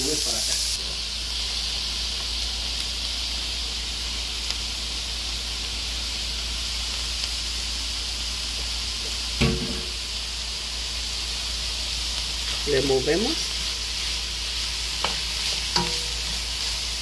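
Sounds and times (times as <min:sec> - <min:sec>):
onion sizzling in hot oil: 0:00.0 - 0:17.0.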